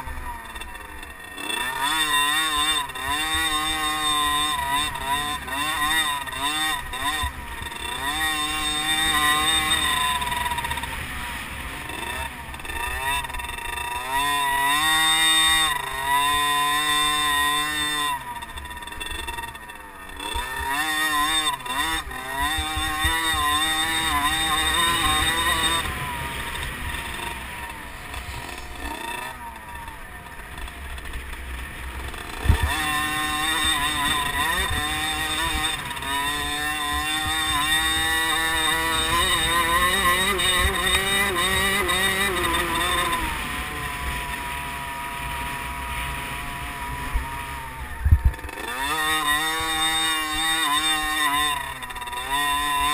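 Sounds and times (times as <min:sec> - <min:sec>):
two-stroke motorbike engine revving: 0:00.0 - 0:52.9.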